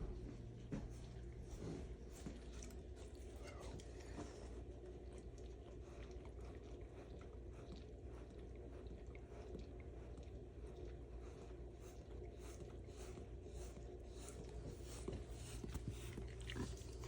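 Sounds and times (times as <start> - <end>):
steady low hum: 0.0 - 17.0
dog licking wet smacking: 2.1 - 17.0.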